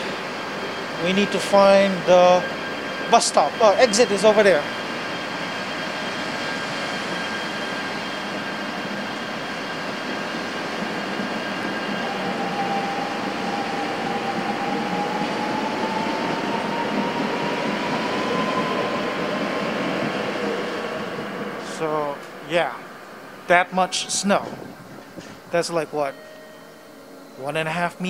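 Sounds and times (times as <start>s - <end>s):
electric motor whine rising: 0.0s - 25.4s
train rumble and hiss: 0.0s - 28.0s.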